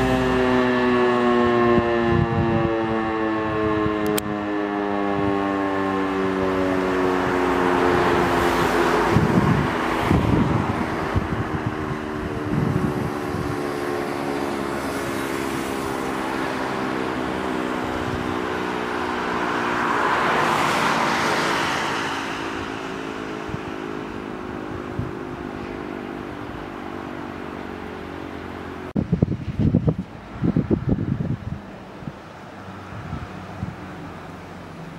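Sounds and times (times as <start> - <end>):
wind buffeting microphone: 0.0 - 5.5, 6.2 - 34.9
siren winding down: 0.0 - 29.0.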